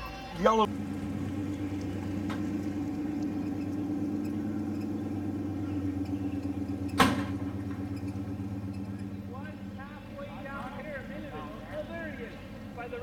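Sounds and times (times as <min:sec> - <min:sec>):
pickup engine idling: 0:00.4 - 0:13.0
loud engine burst: 0:00.7 - 0:12.8.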